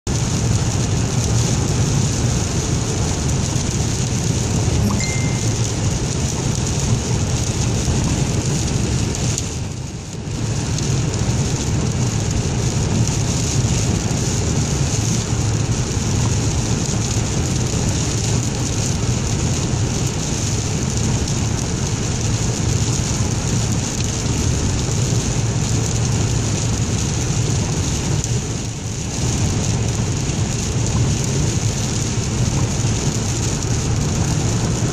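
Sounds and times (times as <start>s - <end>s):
low car cabin rumble: 0.1s - 34.9s
tyres hissing on wet road: 0.1s - 34.9s.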